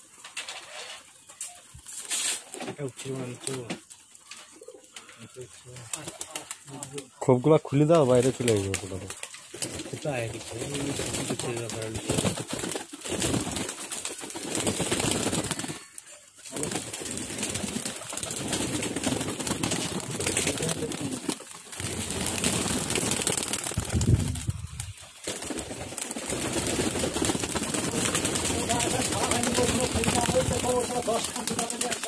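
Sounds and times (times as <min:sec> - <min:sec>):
pigeons flapping wings: 0:01.8 - 0:04.7, 0:05.6 - 0:07.2, 0:07.9 - 0:32.0
pigeons cooing: 0:03.8 - 0:07.2, 0:08.3 - 0:32.0.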